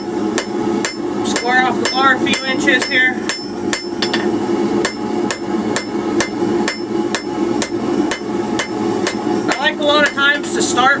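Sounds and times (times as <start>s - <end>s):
hammer striking steel on anvil: 0.0s - 10.3s
steady hum: 0.0s - 11.0s.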